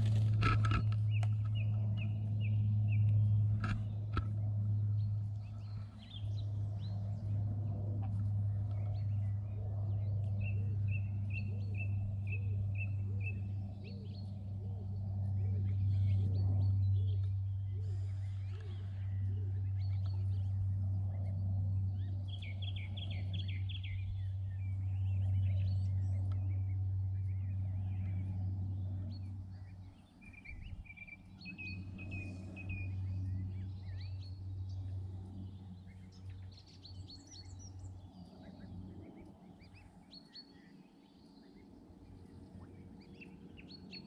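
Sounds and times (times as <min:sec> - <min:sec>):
low hum: 0:00.0 - 0:44.0
songbirds chirping and singing: 0:00.0 - 0:44.0.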